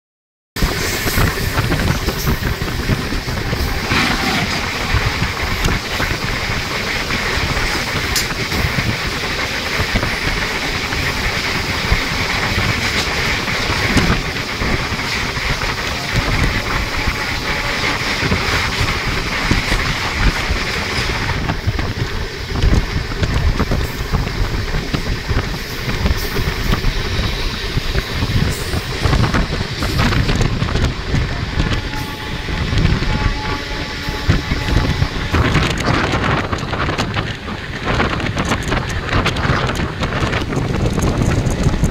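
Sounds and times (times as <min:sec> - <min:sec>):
freight train passing: 0:00.6 - 0:41.9
train rumble and air rush: 0:00.6 - 0:41.9
wheels clattering over rail joints: 0:00.7 - 0:41.9.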